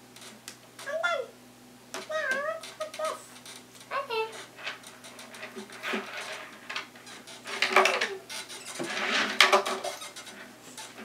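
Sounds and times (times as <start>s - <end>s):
plastic toys clacking and rustling: 2.0s - 11.0s.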